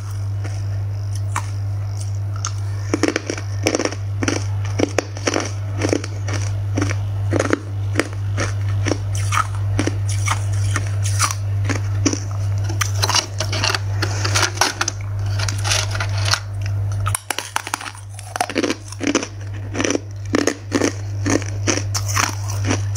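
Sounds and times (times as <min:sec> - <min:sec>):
ice crunching being chewed: 0:00.0 - 0:22.9
steady low hum: 0:00.0 - 0:22.9.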